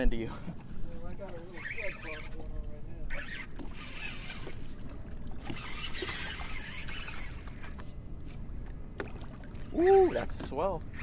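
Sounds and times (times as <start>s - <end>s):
water slapping boat hull: 0.3s - 11.0s.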